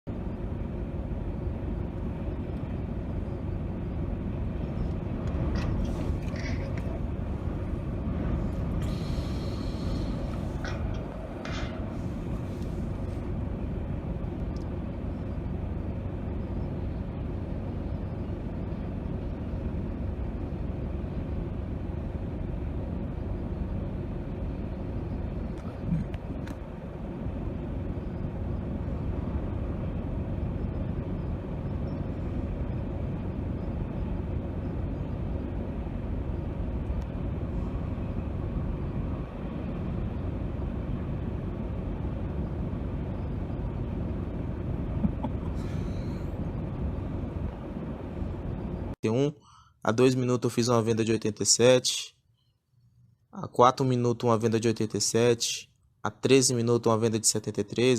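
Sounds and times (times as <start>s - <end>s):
low rumble of ship: 0.0s - 57.9s.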